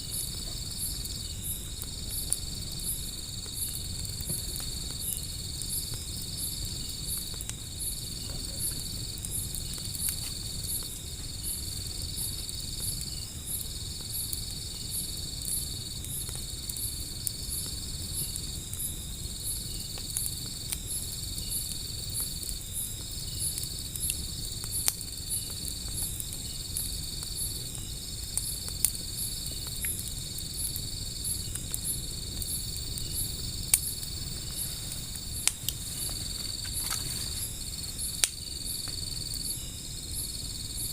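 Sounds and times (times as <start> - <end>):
insect trill: 0.0 - 40.9
pulsed insect chirping: 0.0 - 40.9
wood fire crackling: 0.0 - 40.9.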